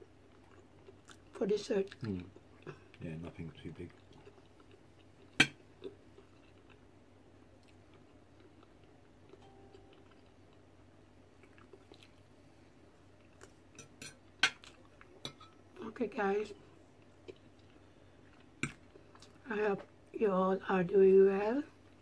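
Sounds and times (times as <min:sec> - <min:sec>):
quiet chewing: 0:00.1 - 0:15.8, 0:16.6 - 0:20.0.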